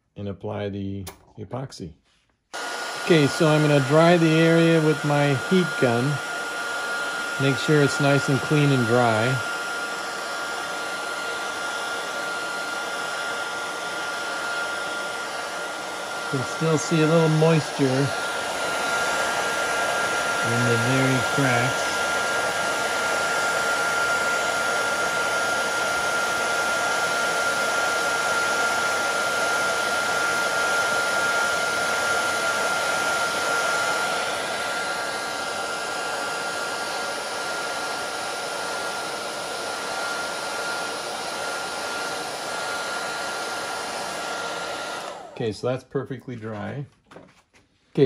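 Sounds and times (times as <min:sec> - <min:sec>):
heat gun blowing air: 0:02.5 - 0:45.5
high fan whine: 0:04.8 - 0:45.4.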